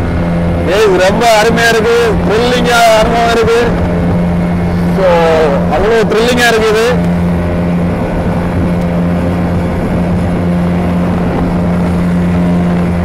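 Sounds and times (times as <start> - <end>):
speedboat engine droning: 0.0 - 13.0.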